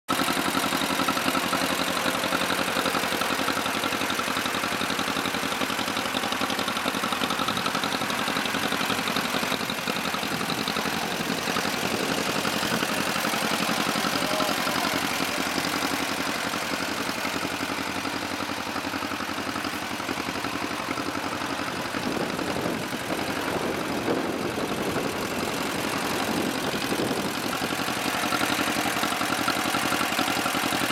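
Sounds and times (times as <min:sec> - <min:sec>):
tractor engine idling: 0:00.1 - 0:30.9.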